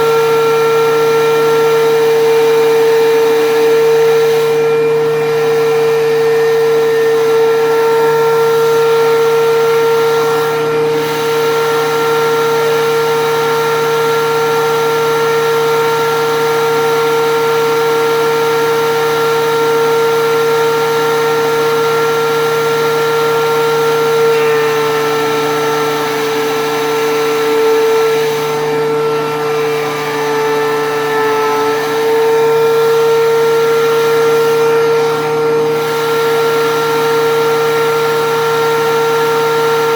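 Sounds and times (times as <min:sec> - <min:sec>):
thickness planer whining: 0:00.0 - 0:39.9.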